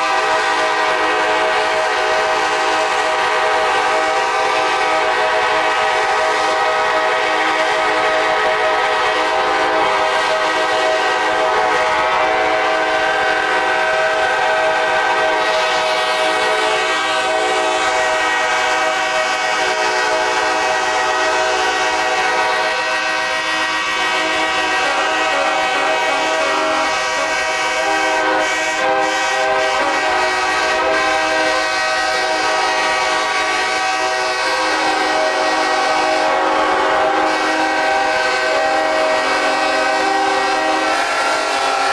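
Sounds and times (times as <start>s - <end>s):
locomotive air horns: 0.0s - 41.9s.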